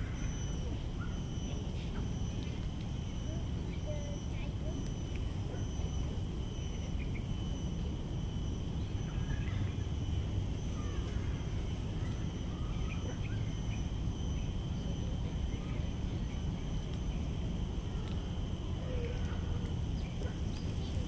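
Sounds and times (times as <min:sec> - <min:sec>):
faint high-pitched hum: 0:00.0 - 0:21.0
steady low rumble: 0:00.0 - 0:21.0.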